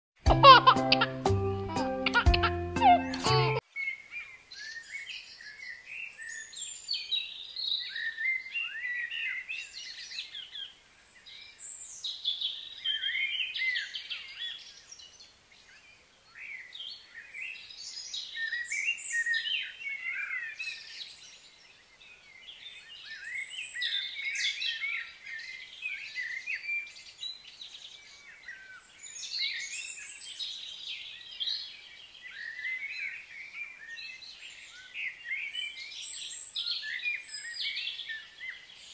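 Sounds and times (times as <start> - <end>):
birds chirping and singing: 0.4 - 38.9.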